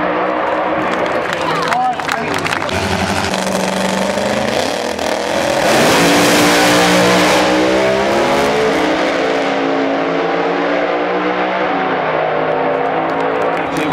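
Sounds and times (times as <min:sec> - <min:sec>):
drag car engines accelerating: 0:00.0 - 0:13.9.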